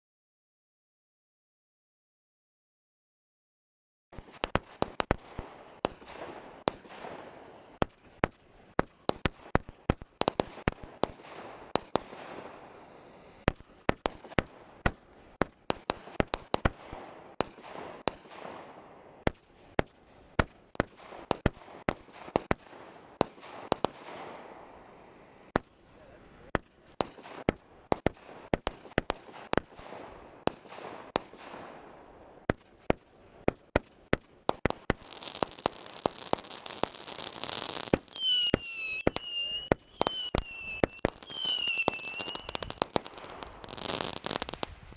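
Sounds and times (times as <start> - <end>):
fireworks cake firing: 4.1 - 44.9.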